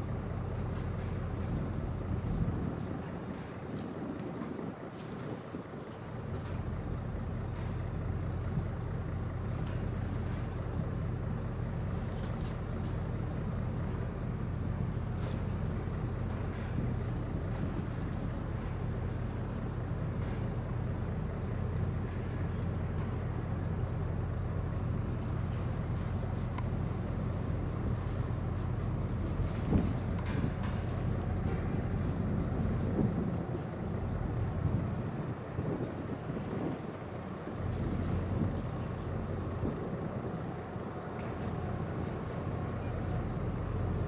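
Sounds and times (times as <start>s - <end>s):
ship diesel engines rumbling: 0.0s - 44.0s.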